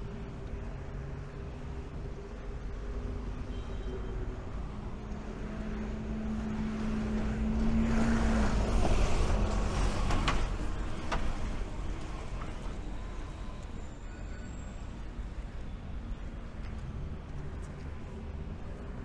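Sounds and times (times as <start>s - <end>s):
bus passing: 0.0s - 19.0s.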